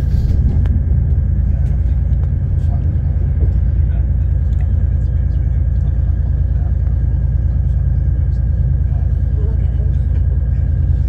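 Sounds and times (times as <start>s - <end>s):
train rumble and engine drone: 0.0s - 11.0s.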